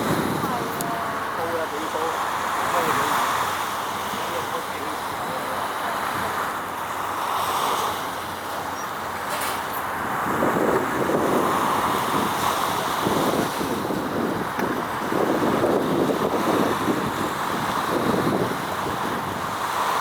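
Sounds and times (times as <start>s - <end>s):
wind buffeting microphone: 0.0s - 6.9s, 8.0s - 20.0s.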